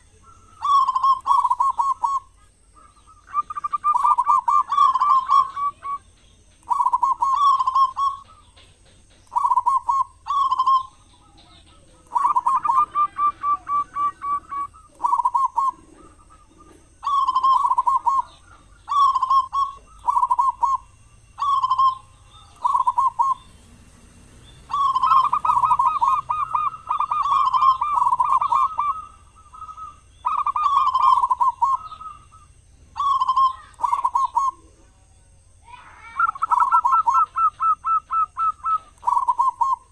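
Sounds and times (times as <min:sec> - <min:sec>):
dove cooing: 0:00.0 - 0:23.8, 0:24.5 - 0:35.0, 0:35.7 - 0:39.9.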